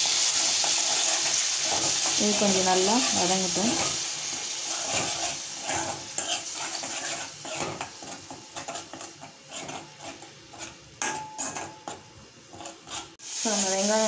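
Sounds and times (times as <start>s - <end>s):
metal spoon scraping a pan: 0.0s - 13.4s
onion paste sizzling in oil: 0.0s - 14.0s.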